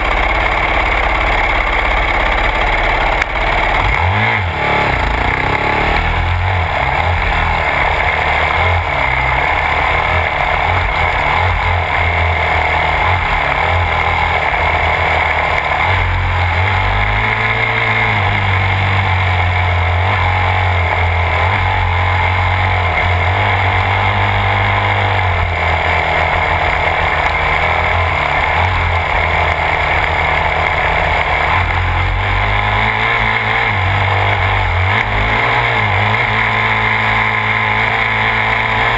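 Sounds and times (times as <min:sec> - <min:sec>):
dirt bike engine revving: 0:00.0 - 0:38.9
steady rush of noise: 0:00.0 - 0:38.9.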